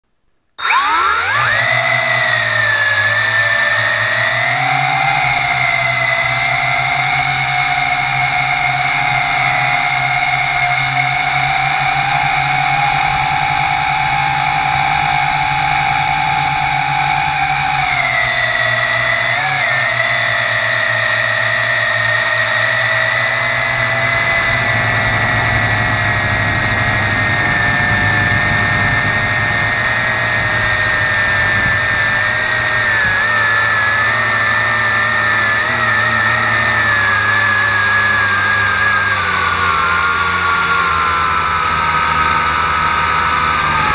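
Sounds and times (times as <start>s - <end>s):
drone propellers whining: 0.6s - 43.9s.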